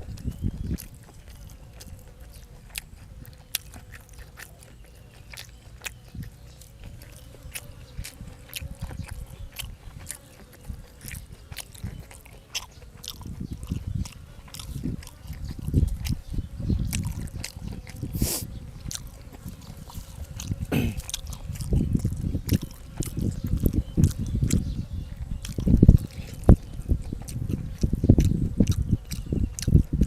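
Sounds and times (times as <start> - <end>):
person chewing and biting food: 0.0 - 30.0.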